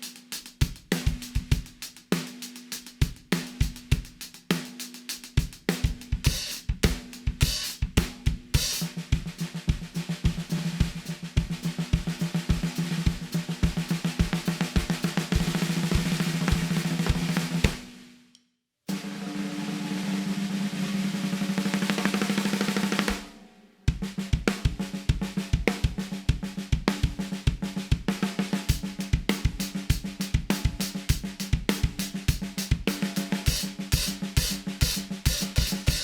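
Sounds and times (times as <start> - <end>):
snare and bass drum beat: 0.0 - 18.1, 18.9 - 23.3, 23.9 - 36.0
snare drum roll: 0.0 - 18.2, 18.9 - 36.0.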